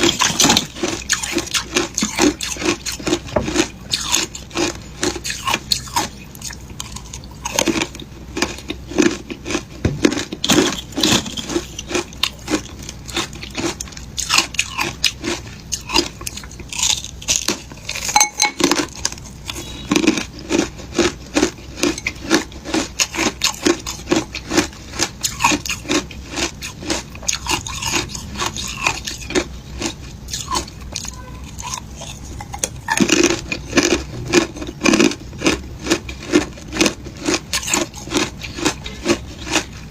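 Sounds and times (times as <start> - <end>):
shaved ice crunching: 0.0 - 32.2, 32.9 - 39.9.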